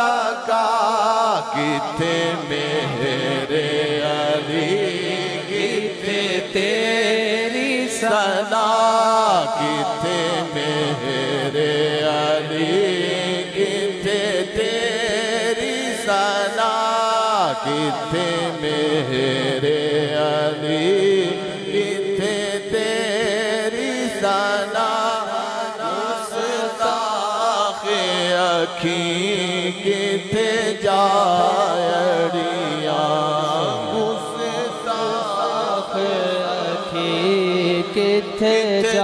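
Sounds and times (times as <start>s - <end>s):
man chanting into a microphone: 0.0s - 39.0s.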